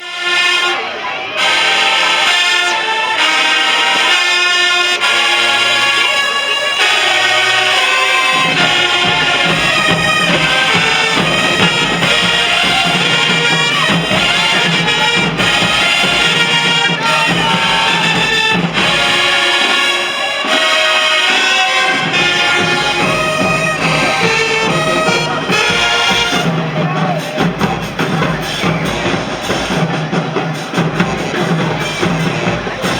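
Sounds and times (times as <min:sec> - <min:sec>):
marching band playing: 0:00.0 - 0:32.9.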